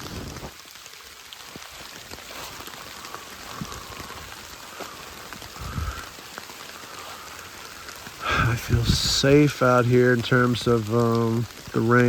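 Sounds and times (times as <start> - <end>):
sharp ticks of raindrops: 0.0 - 12.0
steady rain falling: 0.0 - 12.0.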